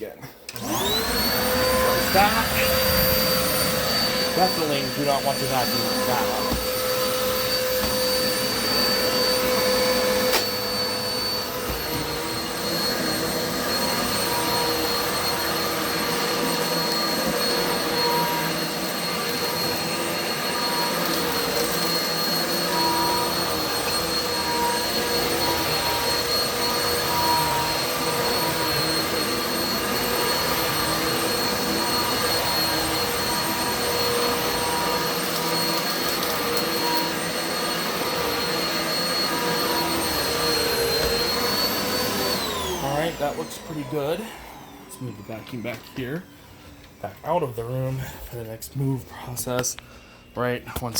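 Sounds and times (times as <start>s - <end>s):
vacuum cleaner whine: 0.2s - 50.9s.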